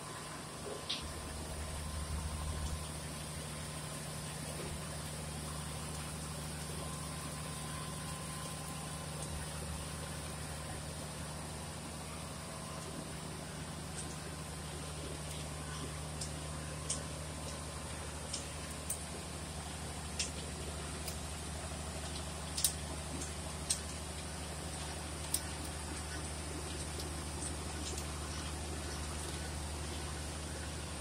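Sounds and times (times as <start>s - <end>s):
crushing mill machinery humming: 0.0s - 31.0s.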